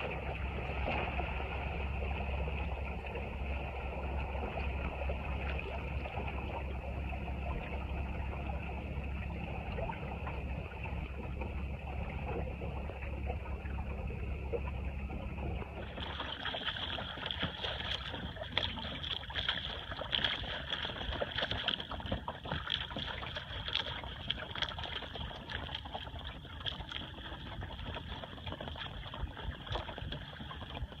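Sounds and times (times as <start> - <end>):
low rumble: 0.0 - 31.0
water lapping against boat hull: 0.0 - 31.0.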